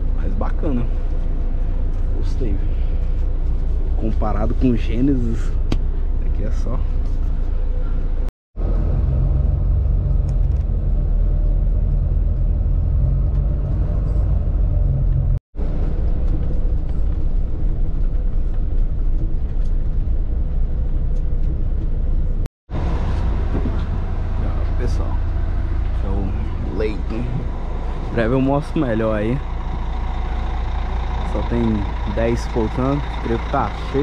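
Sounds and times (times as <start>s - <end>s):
bus engine rumble: 0.0s - 34.0s
road noise: 0.0s - 34.0s.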